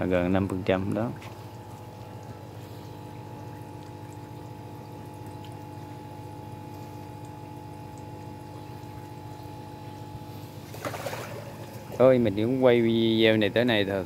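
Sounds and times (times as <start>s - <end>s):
faint running water: 0.0s - 14.0s
motor humming steadily: 0.0s - 14.0s.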